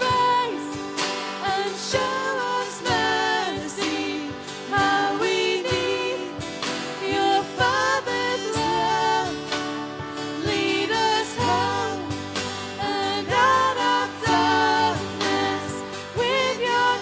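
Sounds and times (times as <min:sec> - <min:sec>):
instrumental accompaniment: 0:00.0 - 0:17.0
person singing worship song: 0:00.0 - 0:17.0.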